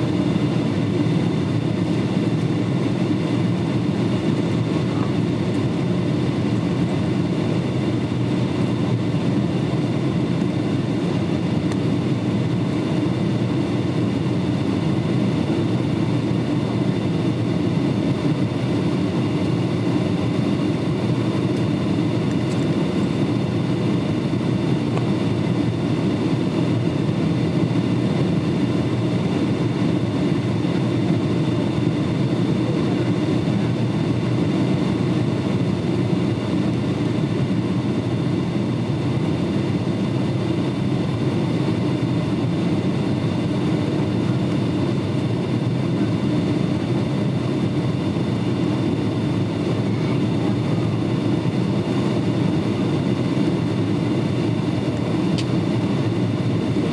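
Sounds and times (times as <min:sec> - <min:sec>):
airliner cabin engine and airflow noise: 0:00.0 - 0:56.9.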